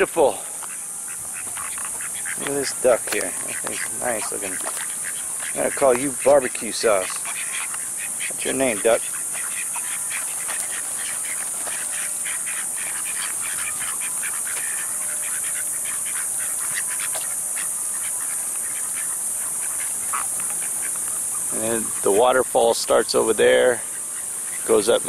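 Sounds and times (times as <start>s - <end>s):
ducks and birds calling: 0.0s - 25.0s
high-pitched insect drone: 0.0s - 25.0s.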